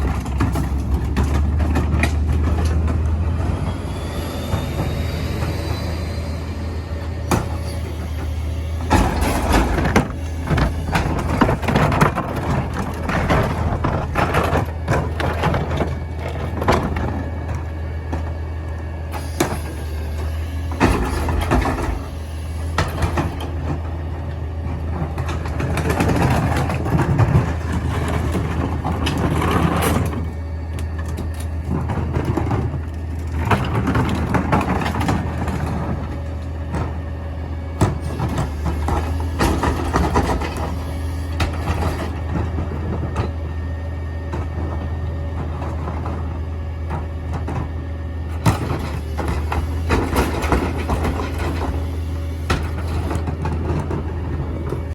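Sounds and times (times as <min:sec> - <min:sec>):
metal and trash clanking: 0:00.0 - 0:06.4, 0:07.0 - 0:18.5, 0:19.1 - 0:37.1, 0:37.8 - 0:43.6, 0:44.2 - 0:54.9
truck engine hum: 0:00.0 - 0:54.9.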